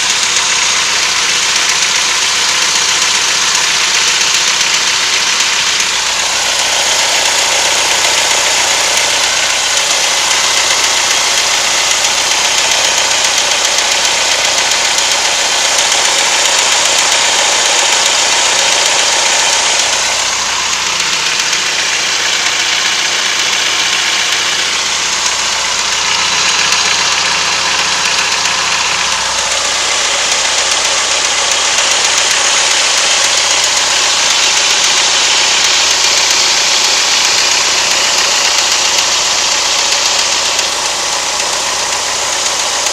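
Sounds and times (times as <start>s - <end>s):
car engine idling with knock: 0.0s - 42.9s.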